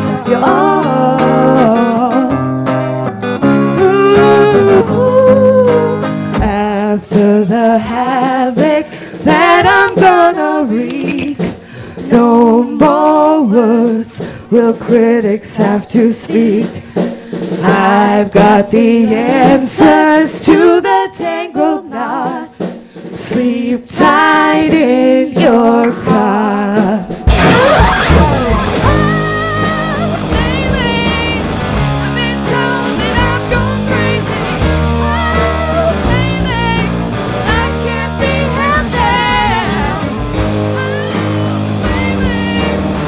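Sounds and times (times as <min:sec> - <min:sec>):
women singing rock song: 0:00.0 - 0:02.8, 0:03.6 - 0:43.0.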